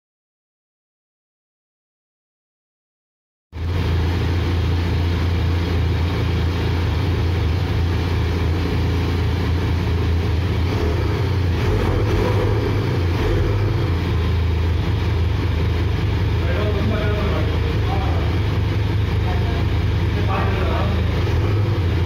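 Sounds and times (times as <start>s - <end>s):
motorcycle engine idling: 3.6s - 22.0s.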